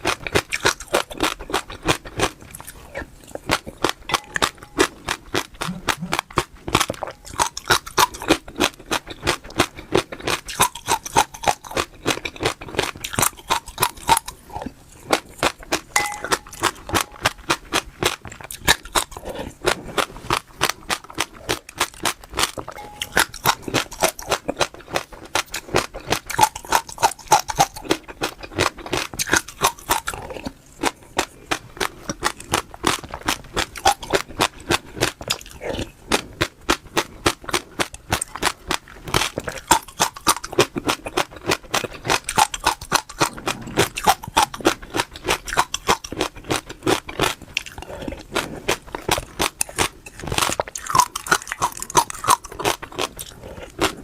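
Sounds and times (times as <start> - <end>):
crunchy food chewing: 0.0 - 54.0.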